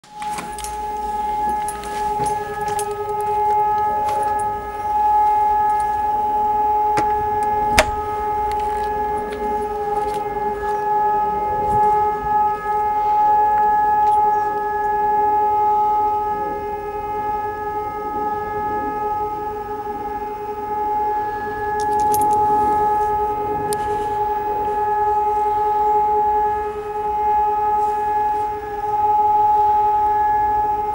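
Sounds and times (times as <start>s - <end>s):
horn-like drone: 0.0s - 30.9s.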